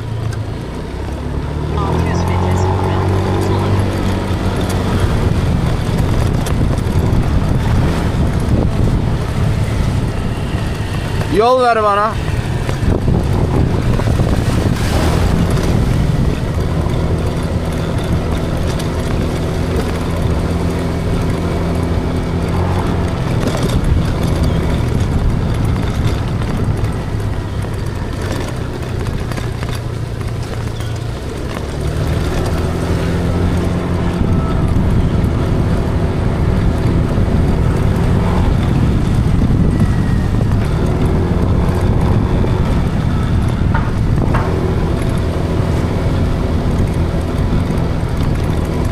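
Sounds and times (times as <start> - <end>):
car engine while driving: 0.0 - 48.9
road noise: 0.0 - 48.9.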